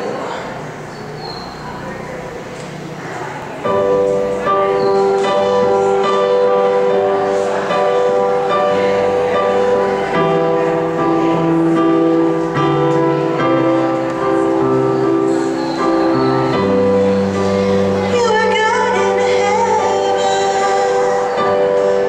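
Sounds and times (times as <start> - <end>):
held keyboard chords: 0.1 - 22.0.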